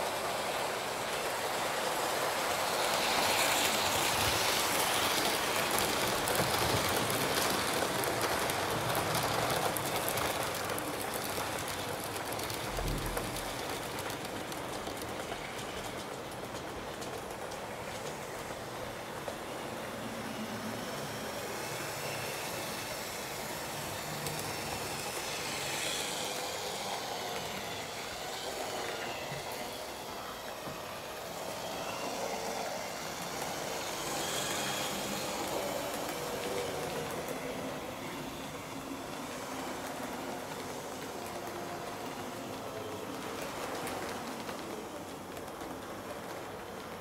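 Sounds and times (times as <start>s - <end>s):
model train motors whirring: 0.0s - 47.0s
wheels rolling on track: 0.0s - 47.0s.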